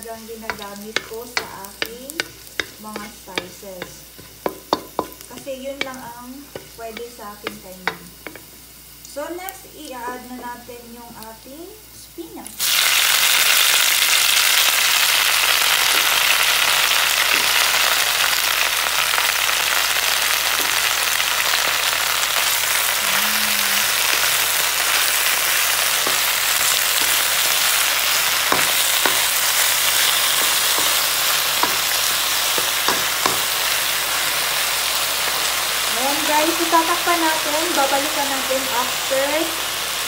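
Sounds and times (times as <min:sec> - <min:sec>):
leaves sizzling in oil: 0:00.0 - 0:40.0.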